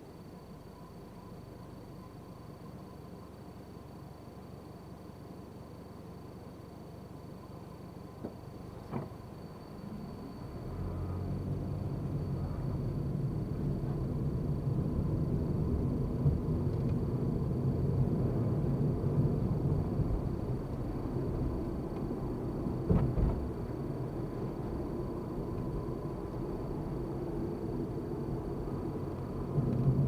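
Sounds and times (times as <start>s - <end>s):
car driving road noise: 5.0s - 30.0s.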